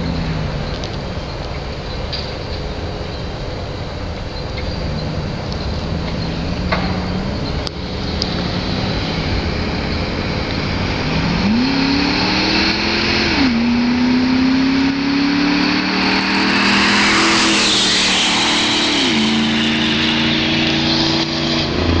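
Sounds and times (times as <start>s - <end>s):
car engine revving: 0.0s - 1.8s, 4.0s - 22.0s
rush of noise: 0.0s - 22.0s.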